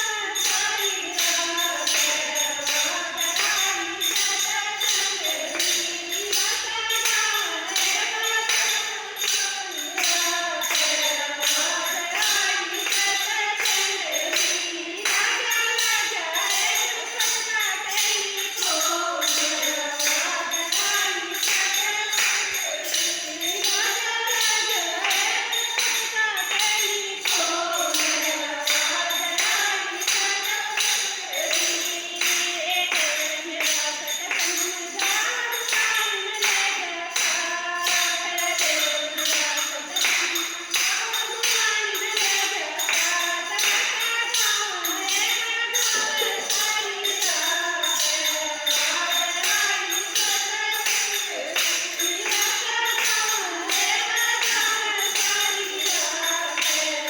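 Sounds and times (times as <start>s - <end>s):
high voice singing devotional song: 0.0s - 57.0s
jingling percussion: 0.0s - 57.0s.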